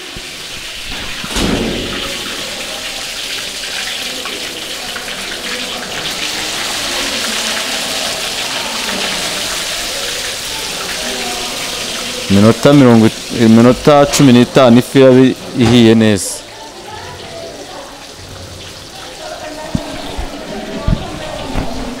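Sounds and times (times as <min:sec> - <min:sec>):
fish sizzling in hot oil: 0:00.0 - 0:21.6.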